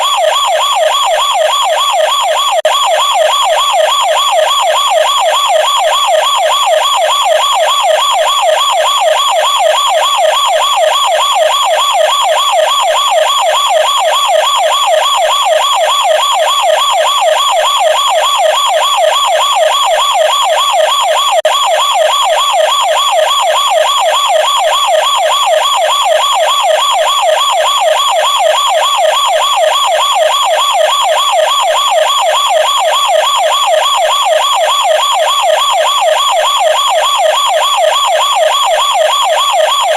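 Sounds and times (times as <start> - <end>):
toy police car siren warbling: 0.0 - 39.9.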